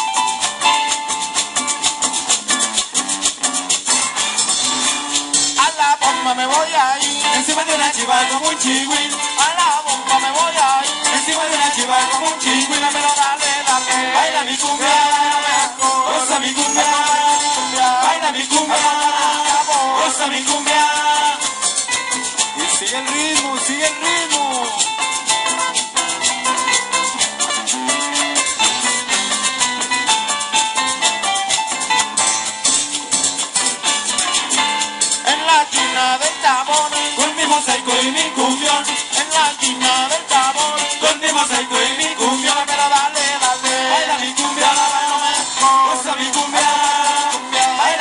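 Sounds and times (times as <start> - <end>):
cumbia band playing: 0.0 - 48.0
shaker percussion rhythm: 0.0 - 48.0.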